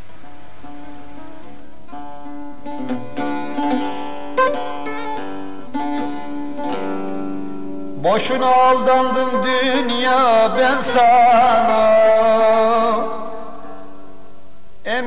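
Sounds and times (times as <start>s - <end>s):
plucked lute melody: 0.0s - 14.3s.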